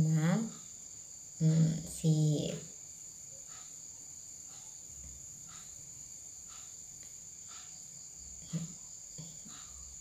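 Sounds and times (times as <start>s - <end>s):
cricket trill: 0.0s - 10.0s.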